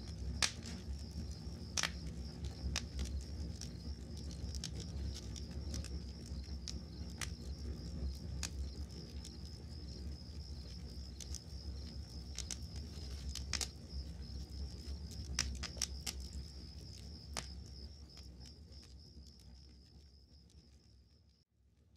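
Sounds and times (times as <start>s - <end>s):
campfire crackling and popping: 0.0s - 20.8s
crickets chirping: 0.0s - 21.4s.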